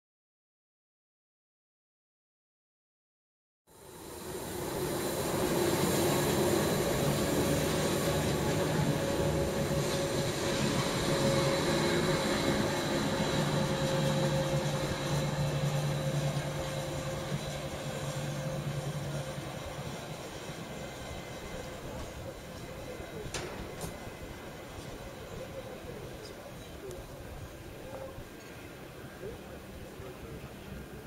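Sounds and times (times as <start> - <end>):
electric train humming by: 3.7 - 31.0.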